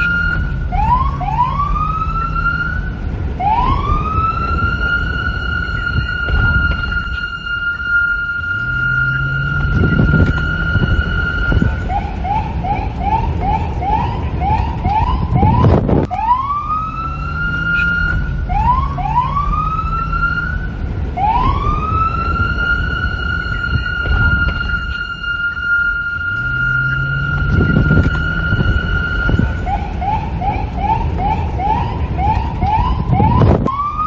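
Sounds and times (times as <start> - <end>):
low rumble: 0.0 - 33.8
police siren: 0.0 - 34.0
wind: 0.0 - 34.0.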